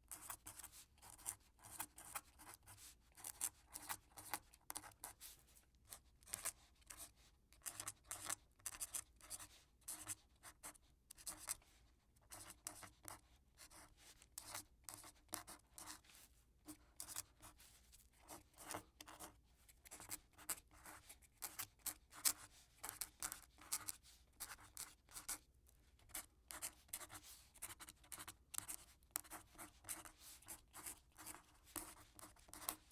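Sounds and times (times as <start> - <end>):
quill pen scratching paper: 0.1 - 5.3, 5.9 - 11.6, 12.3 - 16.0, 16.7 - 17.6, 18.2 - 25.4, 26.0 - 32.9.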